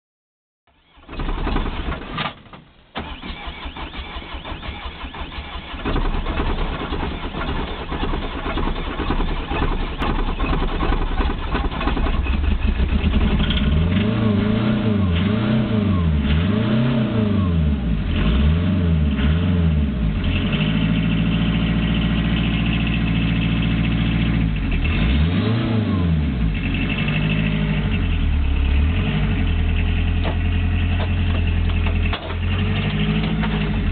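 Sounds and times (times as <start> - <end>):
diesel engine cranking and revving: 0.7 - 33.9.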